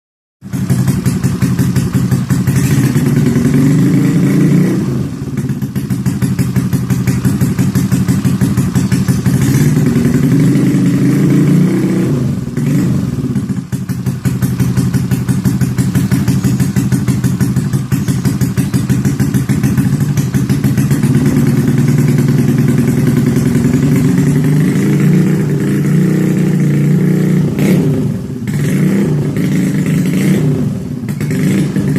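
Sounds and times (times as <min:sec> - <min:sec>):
scooter engine running loudly: 0:00.4 - 0:31.9.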